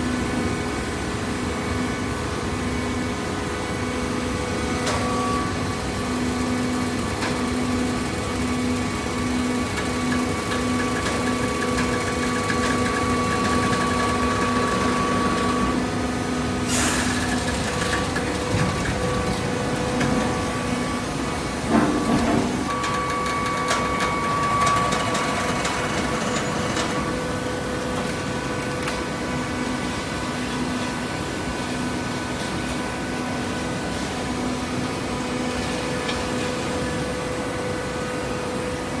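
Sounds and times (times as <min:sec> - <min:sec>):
baler mechanical hum: 0:00.0 - 0:39.0.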